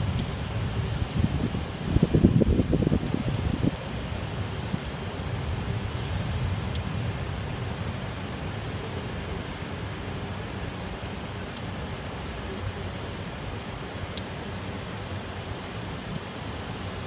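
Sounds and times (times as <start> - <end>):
raindrops ticking: 0.0 - 17.0
steady rain: 0.0 - 17.0.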